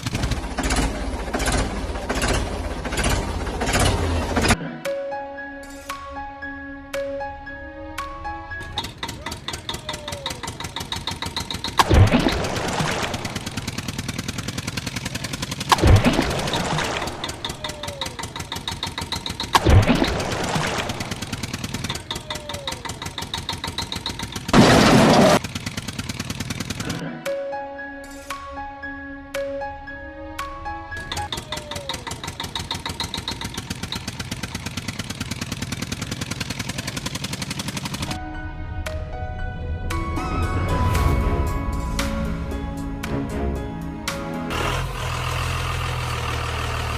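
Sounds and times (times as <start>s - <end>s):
engine pulsing: 0.0s - 4.6s, 8.0s - 27.1s, 30.4s - 38.3s, 39.4s - 46.9s.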